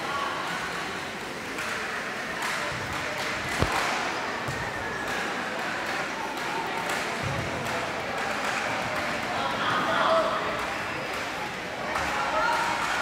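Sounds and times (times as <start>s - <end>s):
spectators chatting: 0.0s - 13.0s.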